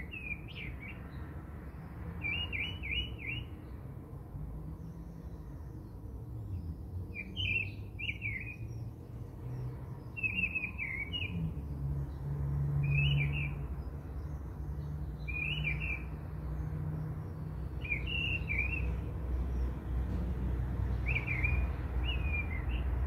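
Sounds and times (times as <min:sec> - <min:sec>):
bird chirping: 0:00.0 - 0:03.9, 0:04.7 - 0:23.0.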